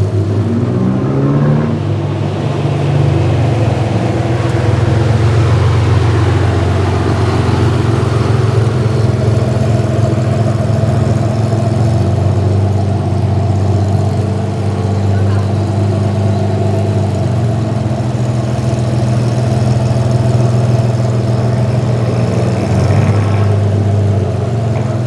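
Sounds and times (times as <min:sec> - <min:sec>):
car engine running at low revs: 0:00.0 - 0:25.0
road noise: 0:00.0 - 0:25.0.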